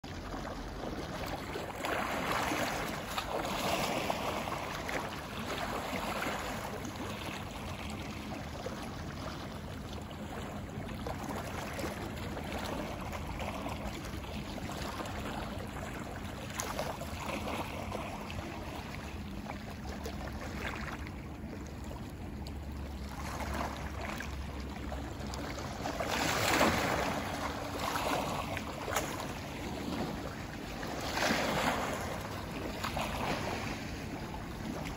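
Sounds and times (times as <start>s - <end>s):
sea waves lapping on stone: 0.0s - 34.9s.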